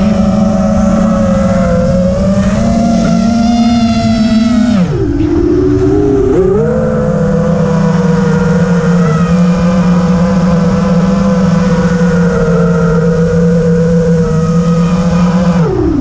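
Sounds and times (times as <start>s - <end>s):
drone motors and propellers buzzing: 0.0s - 16.0s.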